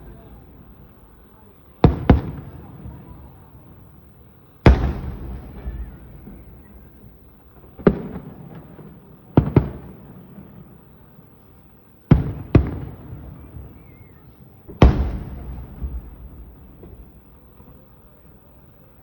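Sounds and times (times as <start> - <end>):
fireworks booming: 0.0 - 18.3.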